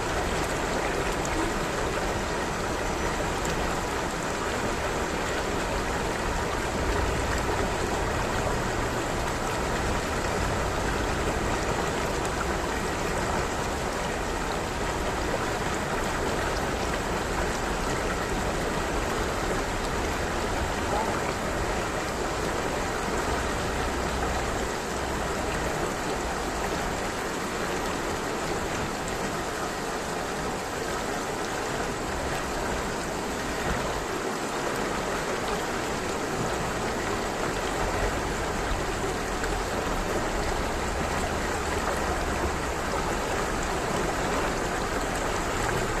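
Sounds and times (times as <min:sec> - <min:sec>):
stream murmuring: 0:00.0 - 0:46.0.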